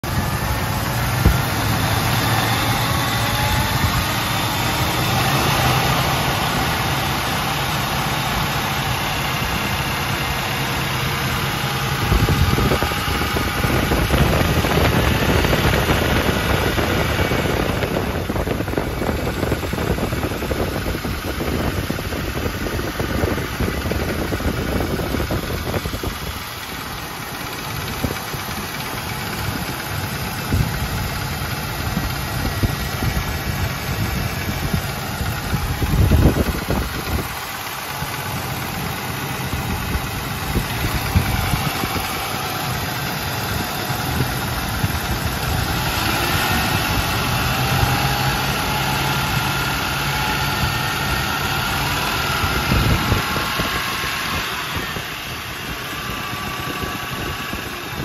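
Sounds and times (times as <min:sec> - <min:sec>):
engine idling: 0:00.0 - 0:58.0
engine tapping noise: 0:00.0 - 0:58.0.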